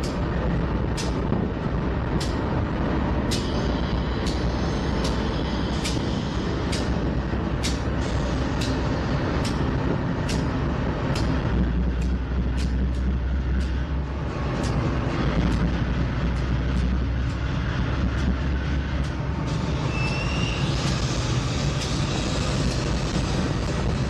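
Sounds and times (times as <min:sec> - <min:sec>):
locomotive engines rumbling: 0:00.0 - 0:24.0
wheels clicking on track: 0:00.0 - 0:24.0.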